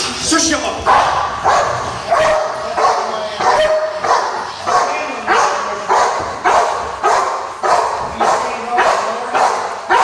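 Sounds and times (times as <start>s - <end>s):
dog barking: 0.8s - 10.0s.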